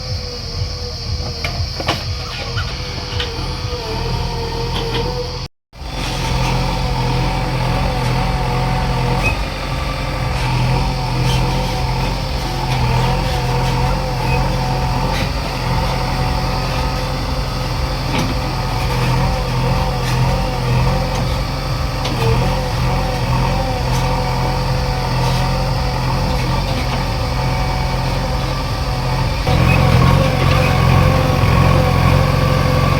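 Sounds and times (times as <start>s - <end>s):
backhoe loader diesel engine: 0.0s - 32.9s
wavering high whine: 0.0s - 32.9s.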